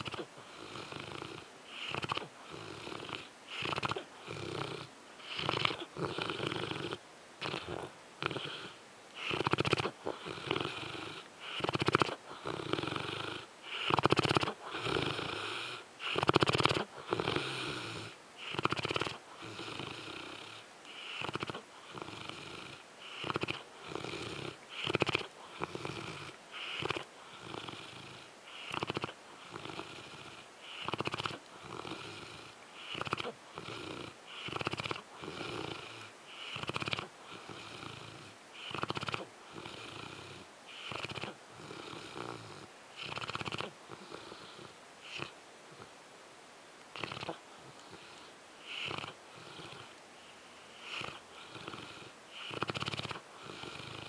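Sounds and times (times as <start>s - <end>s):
dog snoring: 0.0s - 45.9s, 46.9s - 54.0s.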